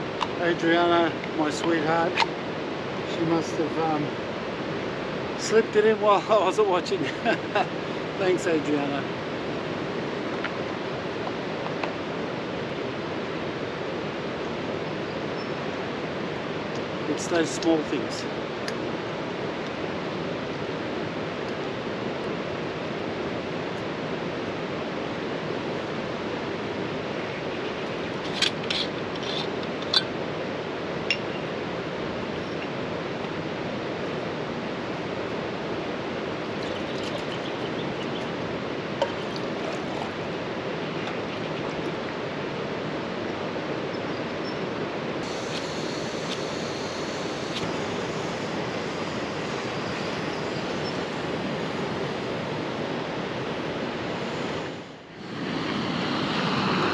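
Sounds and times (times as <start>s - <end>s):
river rushing: 0.0s - 56.9s.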